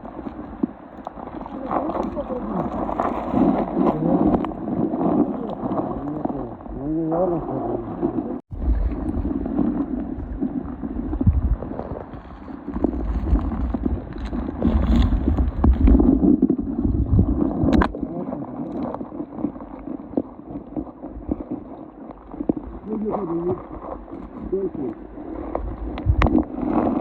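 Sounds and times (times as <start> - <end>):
wind buffeting the microphone: 0.0 - 27.0.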